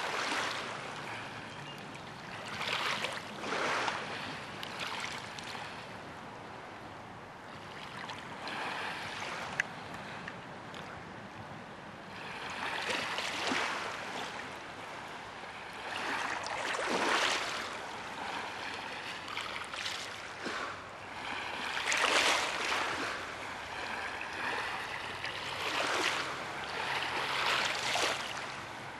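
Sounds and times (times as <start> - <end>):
stream water over pebbles: 0.0 - 5.7, 7.3 - 11.2, 11.9 - 28.9.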